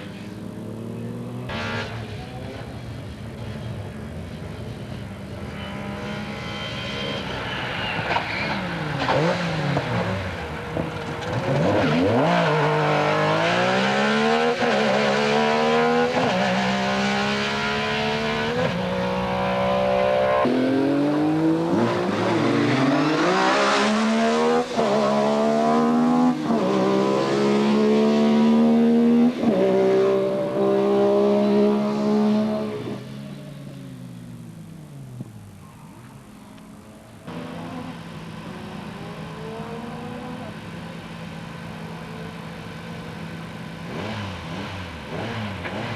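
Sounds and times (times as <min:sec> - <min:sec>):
rally car engine accelerating: 0:00.0 - 0:03.7, 0:04.6 - 0:45.9.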